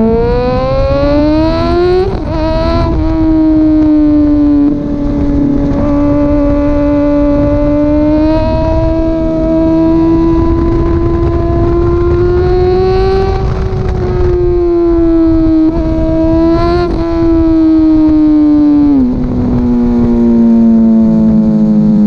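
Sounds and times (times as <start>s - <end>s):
motorcycle engine at high revs: 0.0s - 22.0s.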